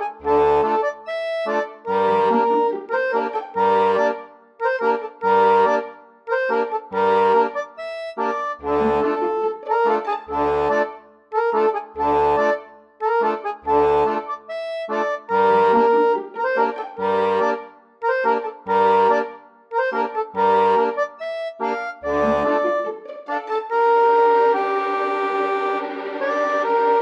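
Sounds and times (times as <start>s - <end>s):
reedy melody: 0.0s - 27.0s.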